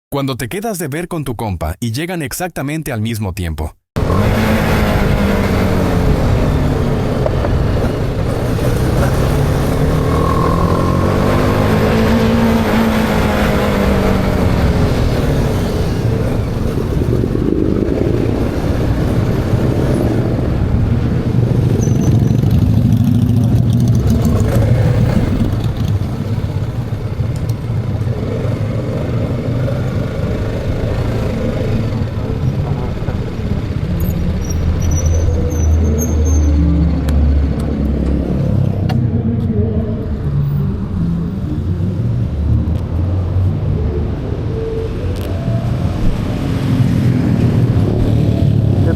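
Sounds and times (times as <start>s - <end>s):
motorcycle engines revving: 4.0s - 48.9s.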